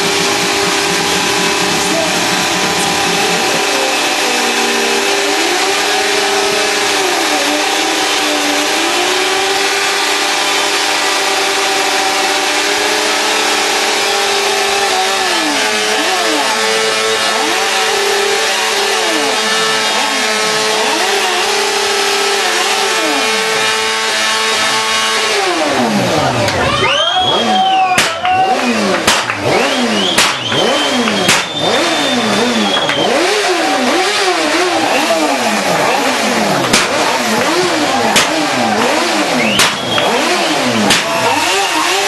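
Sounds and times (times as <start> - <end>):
loud rushing noise: 0.0 - 42.0
motorcycle engines revving: 0.0 - 42.0.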